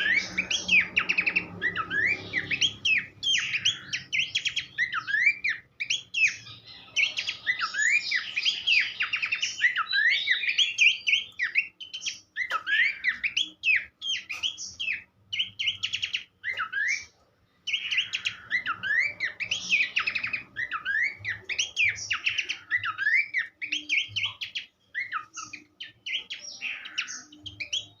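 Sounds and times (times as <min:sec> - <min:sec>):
bird singing chirps and trills: 0:00.0 - 0:28.0.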